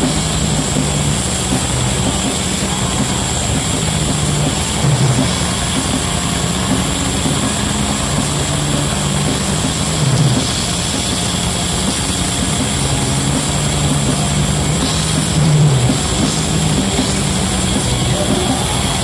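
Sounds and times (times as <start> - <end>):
black metal band playing live: 0.0 - 19.0.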